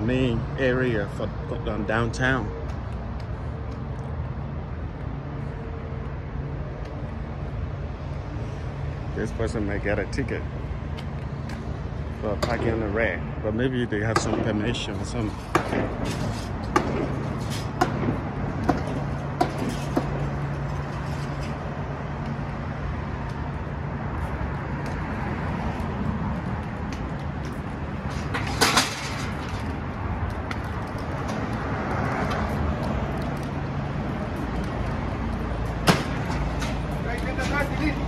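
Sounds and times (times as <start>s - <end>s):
street traffic: 0.0s - 38.0s.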